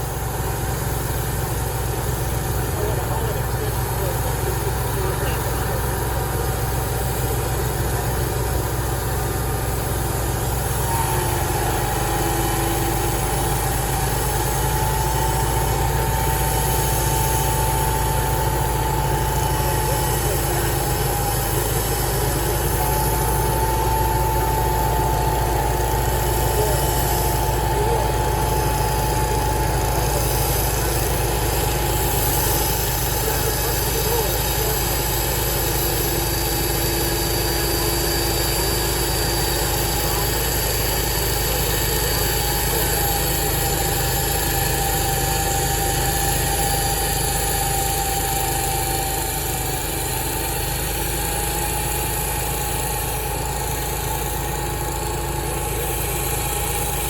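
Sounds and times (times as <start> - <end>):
sawmill engine drone: 0.0 - 57.0
steady machine whine: 0.0 - 57.0.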